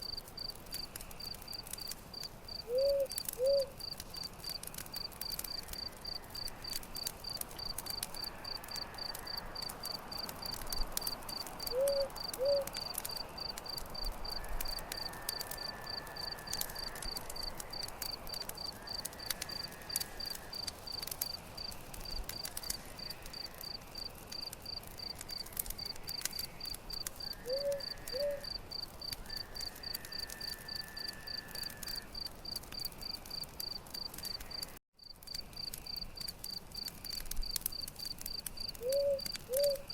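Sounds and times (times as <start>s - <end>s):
campfire crackling: 0.0s - 39.9s
cricket chirping: 0.0s - 39.9s.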